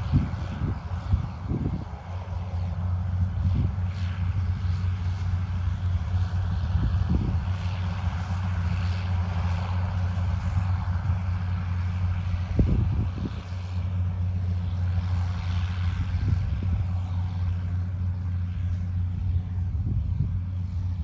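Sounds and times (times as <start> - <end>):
farm machine engine humming: 0.0 - 21.0.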